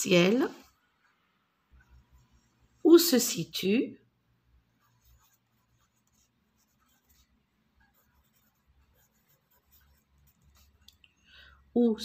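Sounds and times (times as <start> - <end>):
pencil scratching on paper: 0.1 - 3.2, 4.5 - 11.0.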